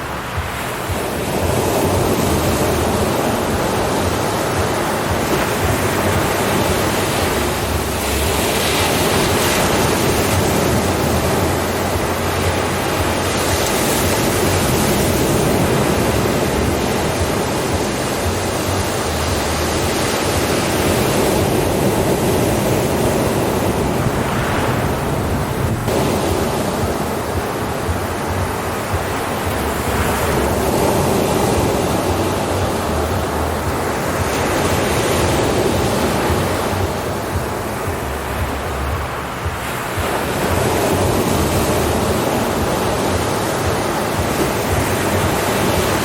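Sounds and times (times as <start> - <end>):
waves breaking: 0.0 - 46.0
wind on microphone: 0.0 - 46.0.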